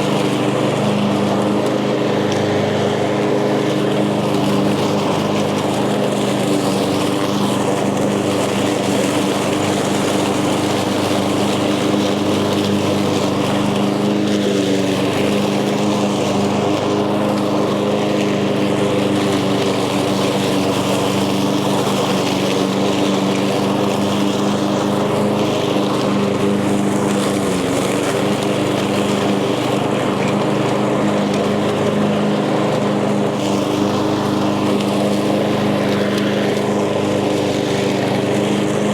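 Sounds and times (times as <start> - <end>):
lawn mower cutting grass: 0.0 - 38.9.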